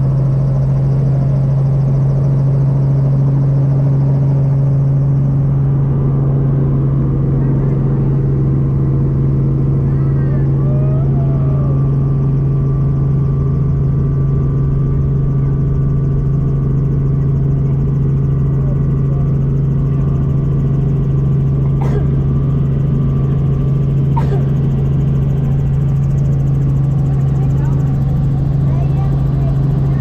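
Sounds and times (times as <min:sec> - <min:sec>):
helicopter engine and rotors droning: 0:00.0 - 0:30.0.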